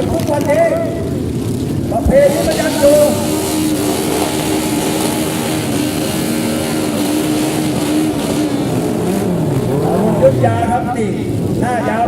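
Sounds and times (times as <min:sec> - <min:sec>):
motorcycle engines running loudly: 0:00.0 - 0:12.0.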